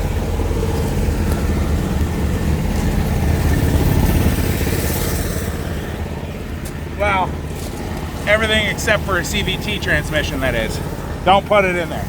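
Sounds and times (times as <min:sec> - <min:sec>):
engine running with low rumble: 0:00.0 - 0:12.0.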